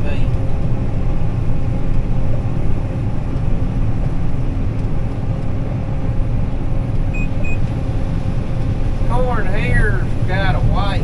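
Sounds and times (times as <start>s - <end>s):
combine harvester low drone: 0.0s - 11.0s.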